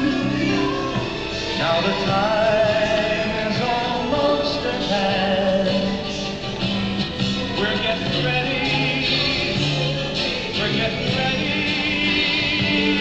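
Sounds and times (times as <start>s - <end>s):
soundtrack music with singing: 0.0s - 13.0s.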